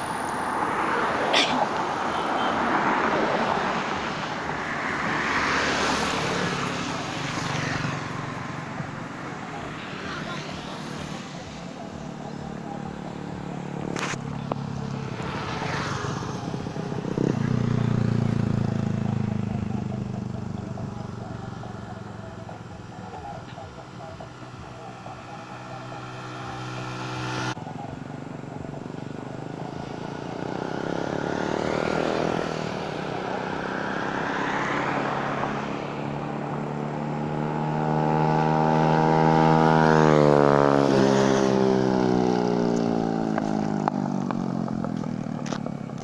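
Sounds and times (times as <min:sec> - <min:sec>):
motorcycles passing at speed: 0:00.0 - 0:46.0.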